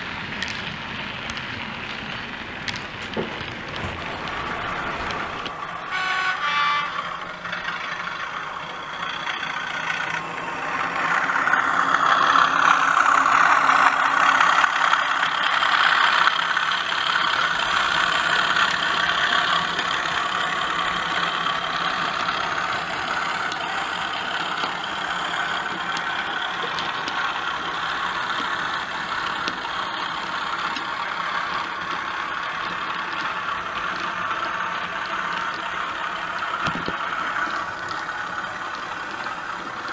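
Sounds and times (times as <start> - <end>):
model train diesel engine sound: 0.0 - 39.9.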